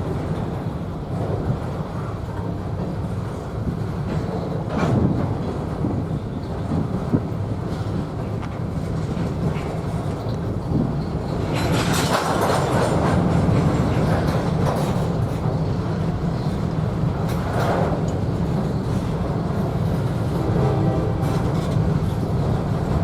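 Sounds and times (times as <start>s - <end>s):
train rumbling past: 0.0s - 23.0s
wheels clattering over rails: 0.0s - 23.0s.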